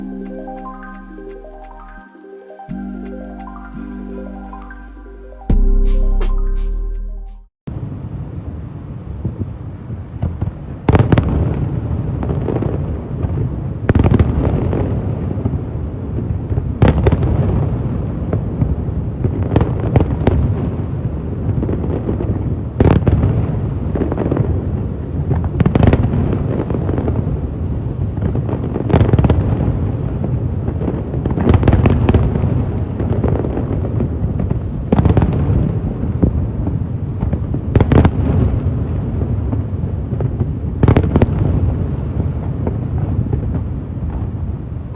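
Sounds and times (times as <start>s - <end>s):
low rumble and crackle of fireworks: 7.7s - 44.9s.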